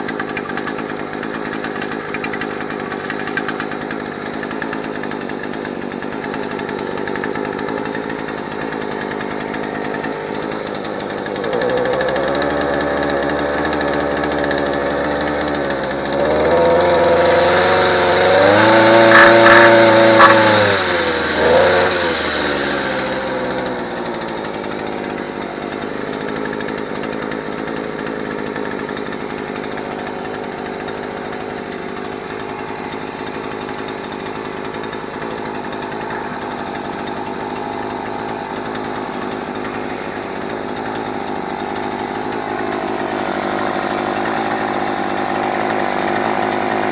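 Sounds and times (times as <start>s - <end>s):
outboard motor revving and idling: 0.0s - 46.9s.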